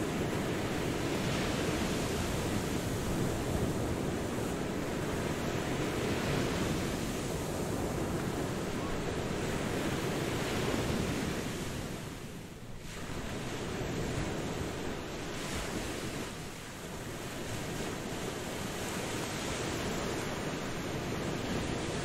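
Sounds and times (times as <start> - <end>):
ocean waves on a beach: 0.0 - 22.0.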